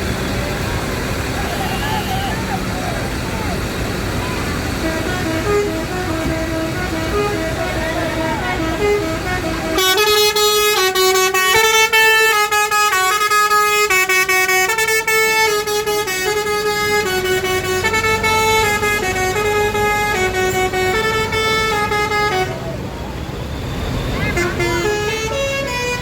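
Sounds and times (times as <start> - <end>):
multi-tone bus horn playing a tune: 0.0 - 26.0.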